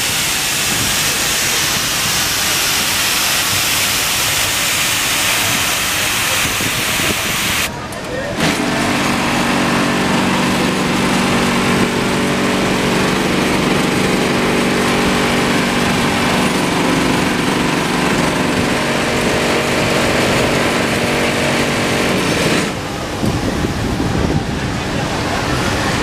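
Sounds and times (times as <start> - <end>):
steam blower humming and hissing: 0.0 - 26.0.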